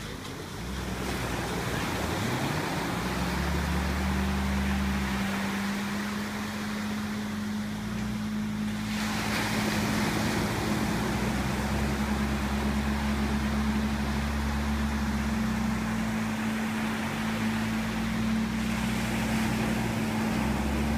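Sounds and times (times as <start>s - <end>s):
engine running on water: 0.0s - 20.9s
rushing water: 0.0s - 20.9s.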